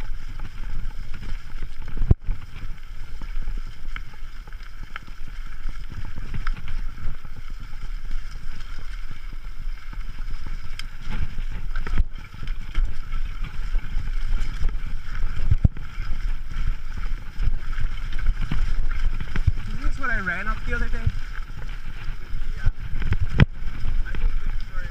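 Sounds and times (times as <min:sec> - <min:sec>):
bike tyre noise on dirt: 0:00.0 - 0:24.9
wind rumble on microphone: 0:00.0 - 0:24.9.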